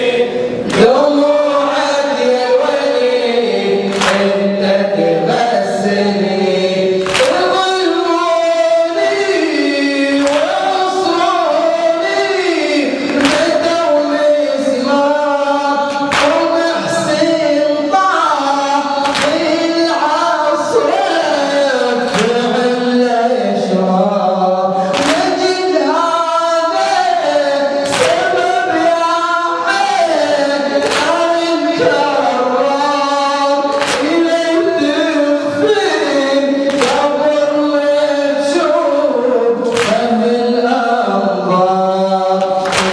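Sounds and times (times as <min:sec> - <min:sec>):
male voices chanting in unison: 0:00.0 - 0:42.9.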